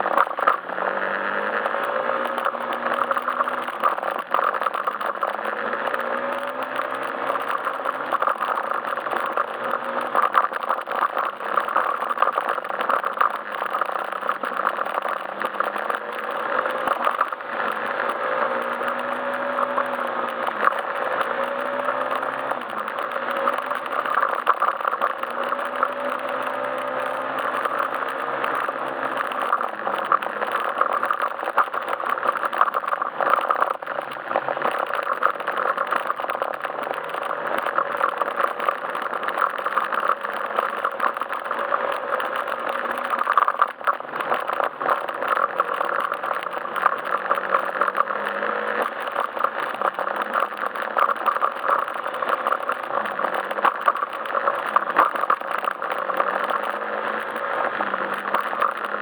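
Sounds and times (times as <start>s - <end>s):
scooter engine running: 0.0s - 59.0s
small clicks and rattles: 0.0s - 59.0s.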